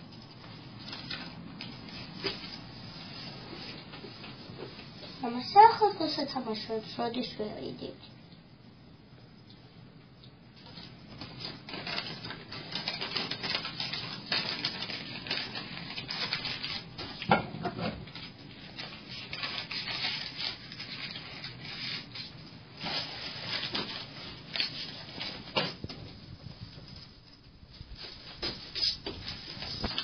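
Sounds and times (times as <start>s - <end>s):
crackling rustling noise: 0.0s - 30.0s.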